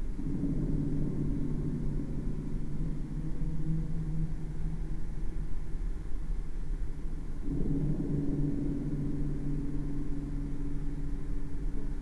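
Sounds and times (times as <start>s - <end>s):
low humming tones: 0.0s - 12.0s
low rumbling drone: 0.0s - 12.0s.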